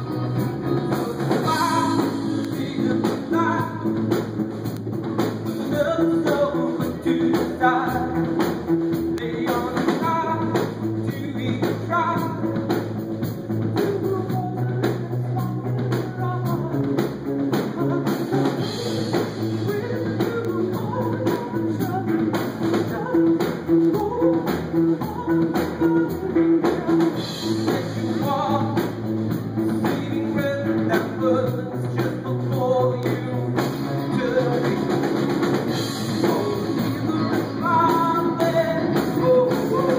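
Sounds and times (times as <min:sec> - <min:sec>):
person singing: 0:00.0 - 0:04.1, 0:05.1 - 0:39.9
drum kit beat: 0:00.0 - 0:39.9
guitar: 0:00.0 - 0:39.9.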